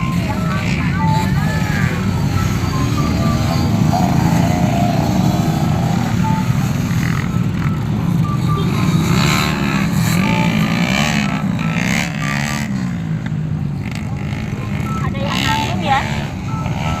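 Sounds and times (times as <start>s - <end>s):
loud vehicle engine noise: 0.0s - 17.0s.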